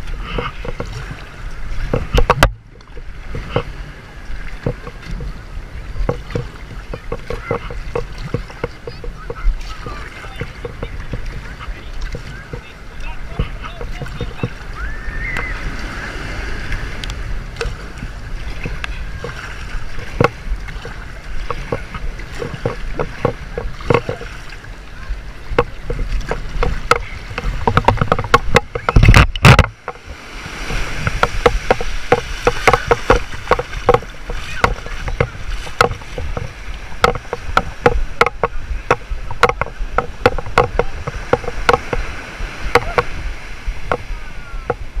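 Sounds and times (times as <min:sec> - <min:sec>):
knocks and clicks: 0:00.0 - 0:01.0, 0:01.7 - 0:03.7, 0:04.6 - 0:14.6, 0:17.0 - 0:24.6, 0:25.4 - 0:43.2, 0:43.9 - 0:44.9
kayak paddling through water: 0:00.0 - 0:45.0
kayak thumping on beach: 0:00.0 - 0:45.0
wind: 0:00.0 - 0:45.0.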